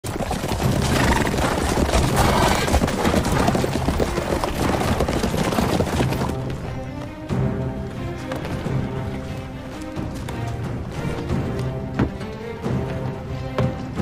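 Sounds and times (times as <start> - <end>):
horse hooves clopping on dirt: 0.0 - 14.0
music: 0.1 - 14.0.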